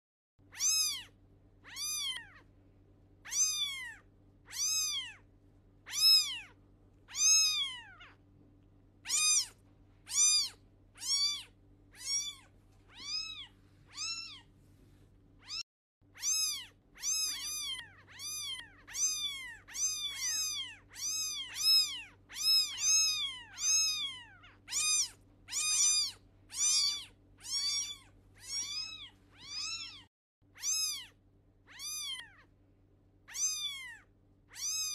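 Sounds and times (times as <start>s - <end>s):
faint steady hum: 0.4s - 34.9s
kittens mewing: 0.5s - 2.5s, 3.2s - 8.2s, 9.0s - 14.5s, 15.4s - 32.5s, 33.3s - 34.9s.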